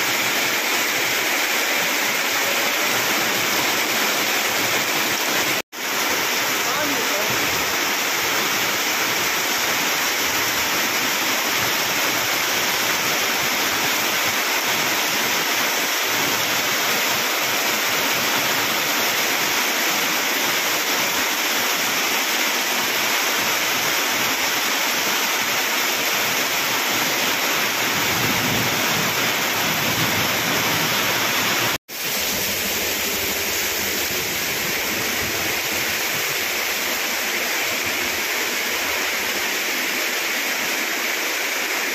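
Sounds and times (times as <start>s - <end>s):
heavy rain: 0.0s - 41.9s
rushing water: 0.0s - 41.9s.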